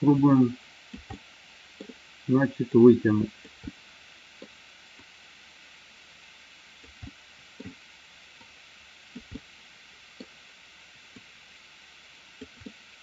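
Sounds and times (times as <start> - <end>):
microphone hiss: 0.0 - 13.0.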